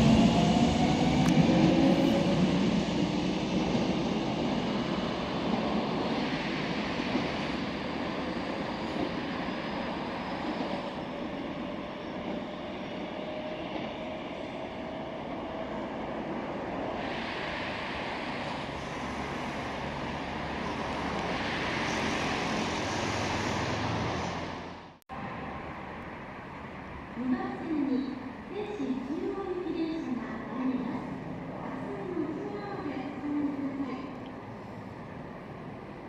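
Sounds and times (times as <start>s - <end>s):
electric subway train rumble and hiss: 0.0s - 36.0s.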